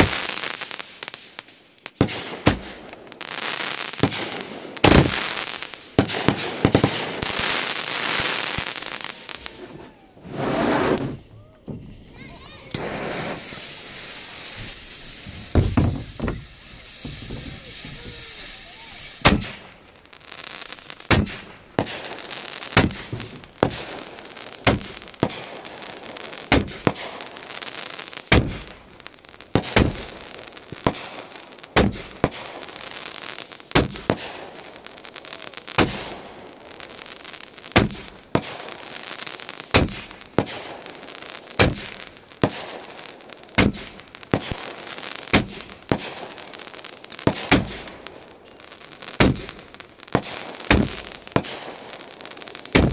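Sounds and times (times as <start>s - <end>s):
fireworks bangs: 0.0s - 52.9s
fireworks hissing: 0.0s - 52.9s.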